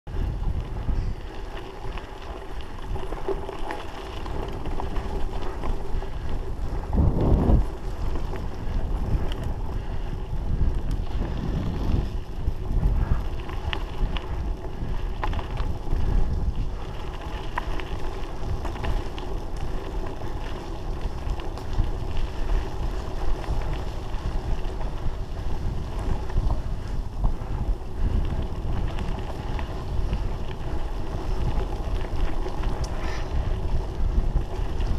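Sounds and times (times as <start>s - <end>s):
bike tyre and frame noise: 0.1s - 34.9s
wind rumbling on microphone: 0.1s - 34.9s.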